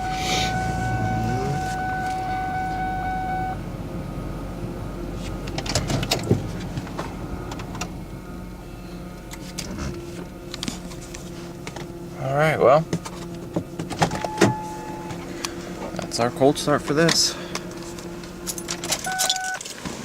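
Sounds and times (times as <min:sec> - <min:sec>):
steady whine: 0:00.0 - 0:19.7
car engine idling: 0:00.0 - 0:20.0.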